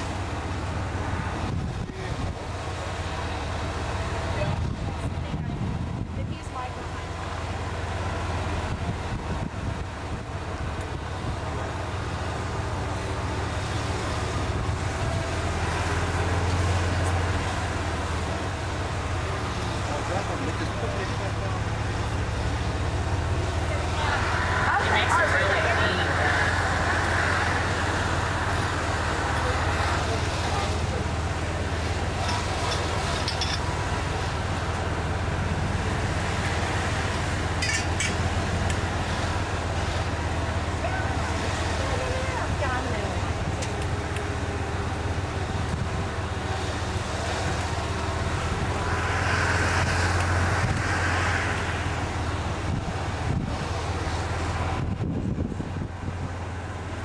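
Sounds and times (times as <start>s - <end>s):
golf cart running: 0.0s - 57.0s
tyre and road noise: 0.0s - 57.0s.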